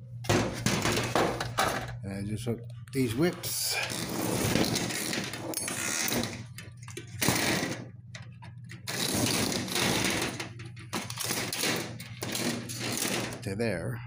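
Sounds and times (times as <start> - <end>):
steady low hum: 0.0 - 14.0
metal parts rattling and scraping: 0.3 - 2.0, 3.0 - 13.6.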